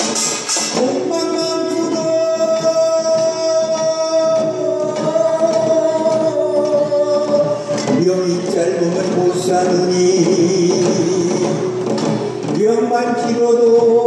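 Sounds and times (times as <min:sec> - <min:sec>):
man chanting: 0:00.8 - 0:11.8, 0:12.5 - 0:14.0.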